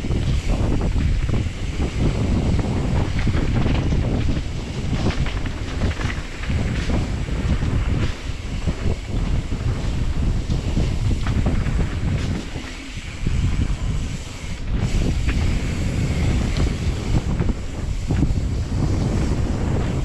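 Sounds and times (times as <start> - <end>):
bike knocks and rattles: 0.0 - 20.0
wind buffeting microphone: 0.0 - 20.0.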